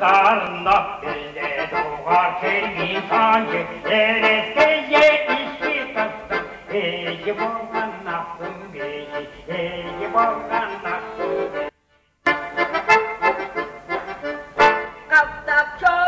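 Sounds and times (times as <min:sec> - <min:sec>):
man singing: 0:00.0 - 0:11.7, 0:14.7 - 0:16.0
accordion: 0:00.0 - 0:16.0.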